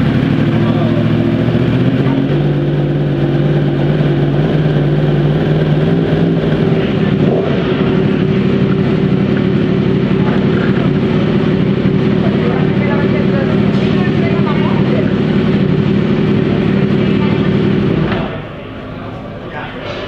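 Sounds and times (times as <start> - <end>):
motorcycle engine running: 0.0 - 19.2.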